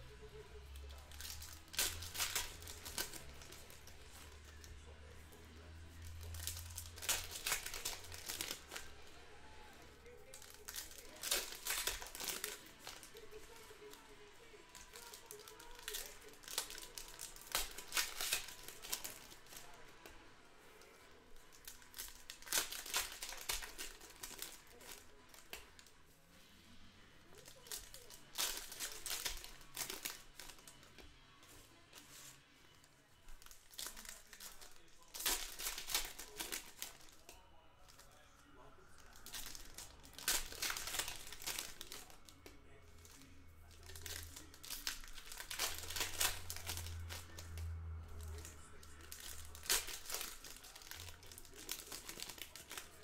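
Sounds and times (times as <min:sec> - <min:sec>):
trading cards handled: 0:00.1 - 0:26.0, 0:26.8 - 0:38.2, 0:38.9 - 0:53.0
foil wrappers tearing and crinkling: 0:00.3 - 0:20.2, 0:20.8 - 0:26.0, 0:27.3 - 0:31.1, 0:31.8 - 0:38.2, 0:38.9 - 0:53.0.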